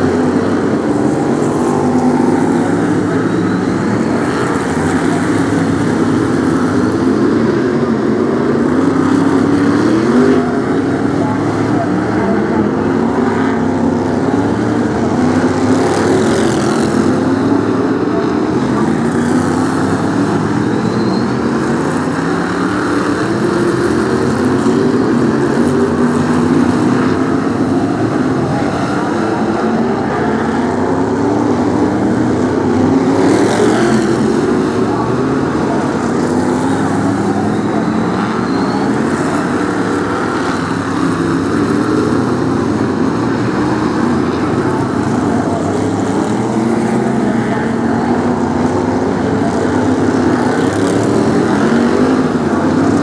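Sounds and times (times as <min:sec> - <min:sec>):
cars passing close: 0:00.0 - 0:53.0
race car engines revving: 0:00.0 - 0:53.0.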